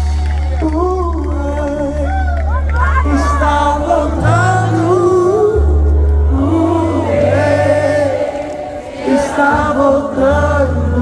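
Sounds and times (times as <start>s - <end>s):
bass notes: 0.0s - 11.0s
gospel singing over a band: 0.0s - 11.0s.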